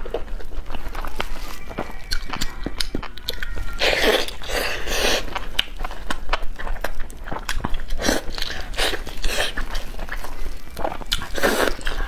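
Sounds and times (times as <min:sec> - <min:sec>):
person chewing chicken: 0:00.0 - 0:12.0.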